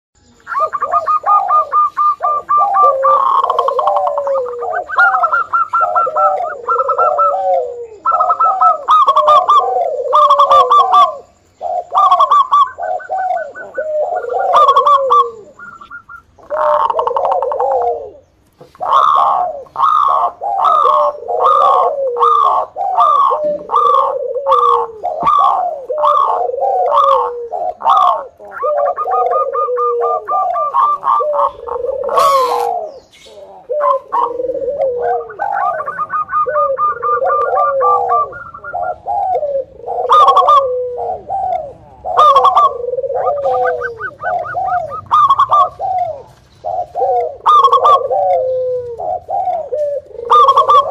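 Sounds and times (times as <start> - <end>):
dove cooing: 0.3 - 50.9.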